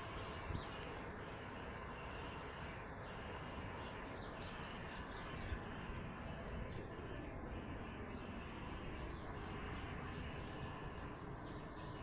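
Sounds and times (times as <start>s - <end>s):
small birds chirping: 0.0s - 12.0s
steady outdoor hiss: 0.0s - 12.0s.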